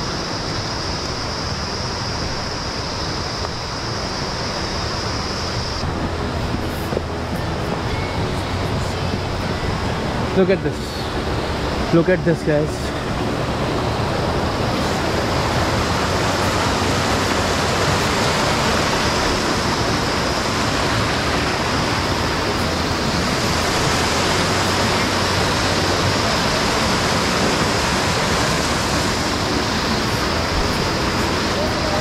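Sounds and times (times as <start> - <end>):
stream rushing over boulders: 0.0 - 32.0.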